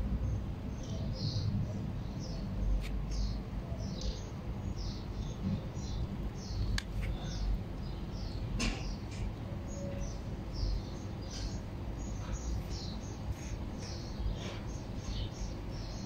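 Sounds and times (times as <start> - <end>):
small bird chirping: 0.7 - 16.0.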